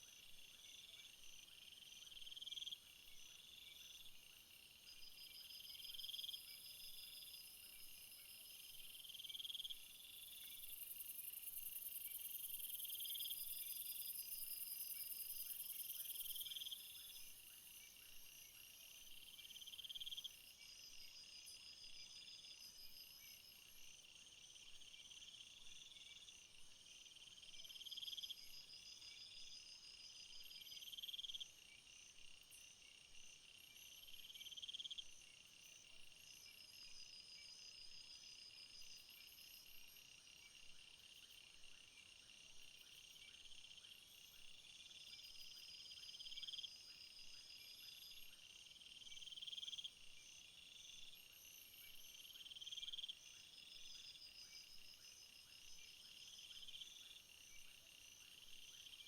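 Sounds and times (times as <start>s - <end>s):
very high steady insect buzz: 0.0s - 59.0s.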